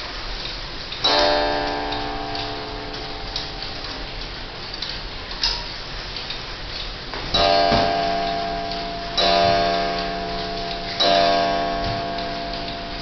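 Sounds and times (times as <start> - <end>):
clock ticking: 0.4 - 5.4, 7.4 - 13.0
clock striking: 1.0 - 5.7, 7.3 - 13.0.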